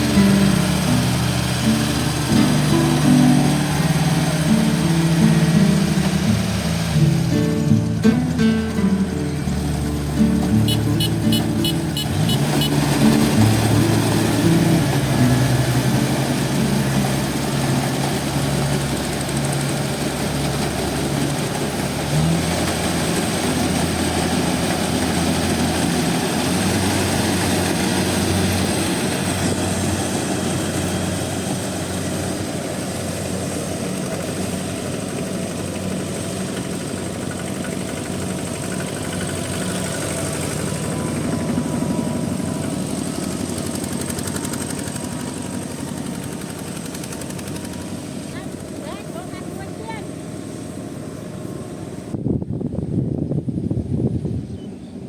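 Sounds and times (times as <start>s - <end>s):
harvester engine drone: 0.0s - 55.0s.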